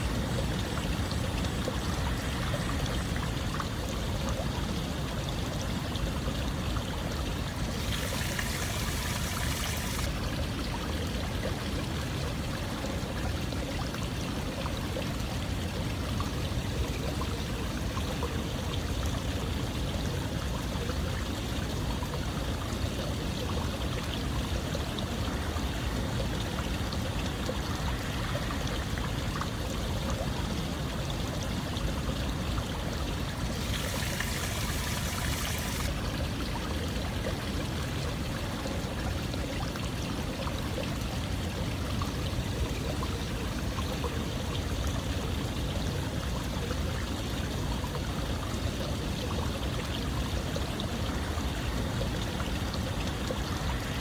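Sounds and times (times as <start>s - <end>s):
water flowing and splashing: 0.0s - 54.0s.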